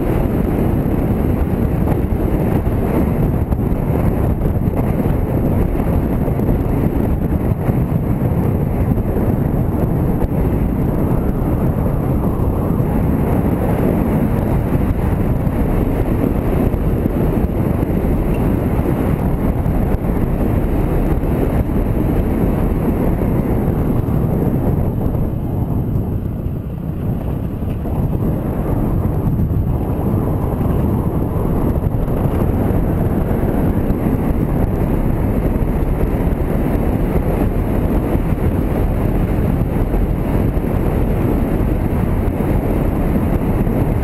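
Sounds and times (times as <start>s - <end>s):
motorcycle engine: 0.0s - 44.0s
road noise: 0.0s - 44.0s
wind rushing on microphone: 0.0s - 44.0s.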